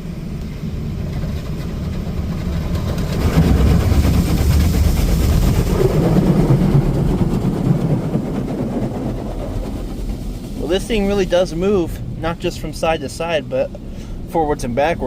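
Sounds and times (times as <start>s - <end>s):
water jets hitting car body: 0.0s - 14.9s.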